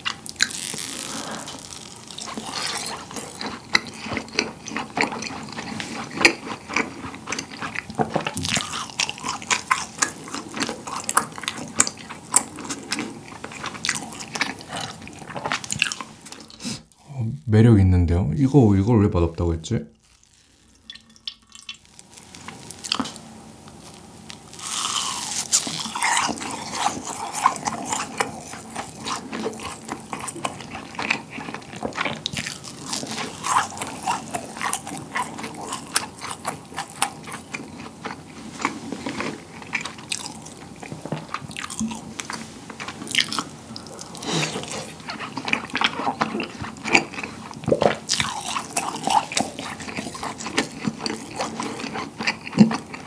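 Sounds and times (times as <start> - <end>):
wet chewing with clicks: 0.0 - 16.9, 20.9 - 23.8, 24.6 - 53.0.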